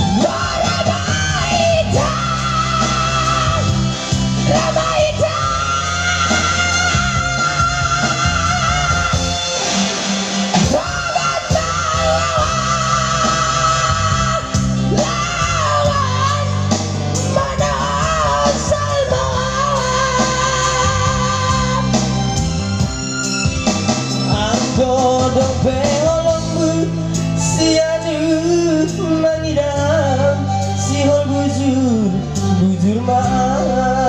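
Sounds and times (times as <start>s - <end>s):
person singing with vibrato: 0.0s - 23.2s, 24.1s - 34.0s
bass and guitar backing track: 0.0s - 34.0s.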